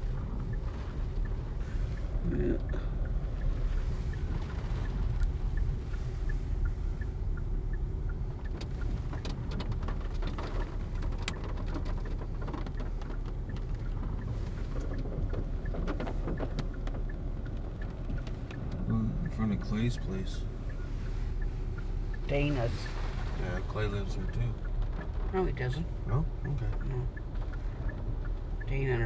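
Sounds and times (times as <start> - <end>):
car road and engine rumble: 0.0 - 29.0
light regular ticking: 0.0 - 29.0.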